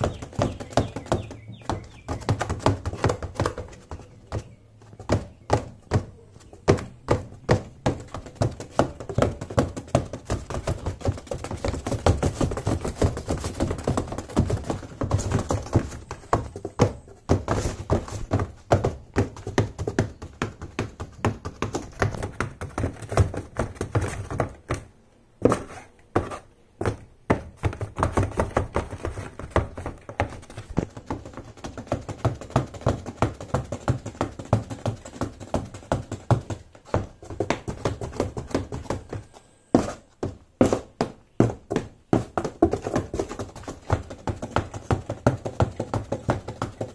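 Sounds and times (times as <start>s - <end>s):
high heels tapping on cardboard: 0.0s - 46.9s.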